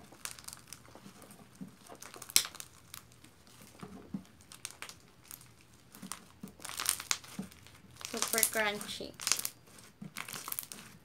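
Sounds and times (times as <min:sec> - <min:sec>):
slime crackling and crunching: 0:00.0 - 0:11.0.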